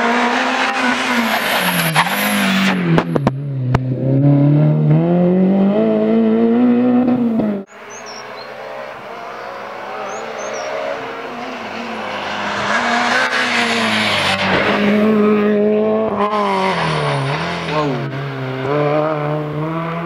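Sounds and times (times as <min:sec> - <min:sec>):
rally car engine passing: 0:00.0 - 0:20.0
road noise: 0:00.0 - 0:20.0.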